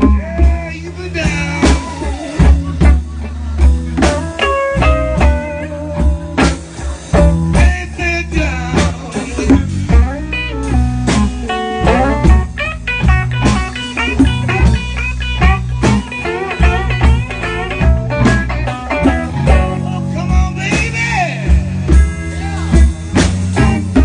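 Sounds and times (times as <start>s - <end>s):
bass and drums: 0.0s - 24.0s
lead guitar bending notes: 0.0s - 24.0s.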